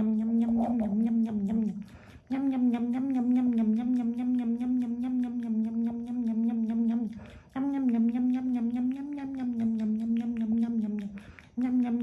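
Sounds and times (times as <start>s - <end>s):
person humming: 0.0s - 12.0s
rabbit chewing: 0.0s - 12.0s.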